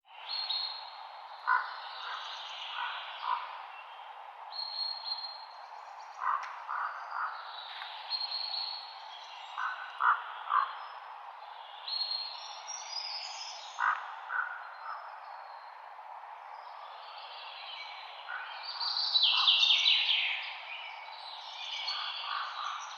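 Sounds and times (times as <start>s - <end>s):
songbirds singing: 0.1s - 22.9s.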